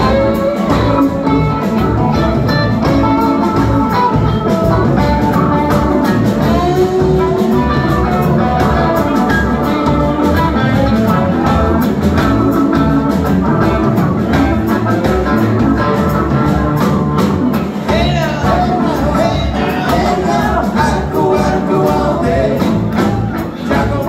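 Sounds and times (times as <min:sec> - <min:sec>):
bass guitar: 0:00.0 - 0:24.0
drum kit: 0:00.0 - 0:24.0
electric guitar: 0:00.0 - 0:24.0
keyboards: 0:00.0 - 0:24.0.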